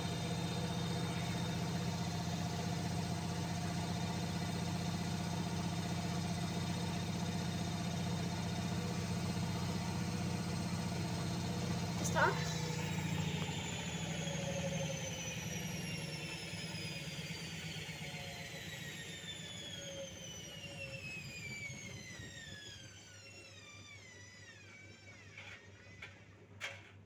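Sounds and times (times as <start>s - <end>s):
washing machine motor whine: 0.0s - 26.5s.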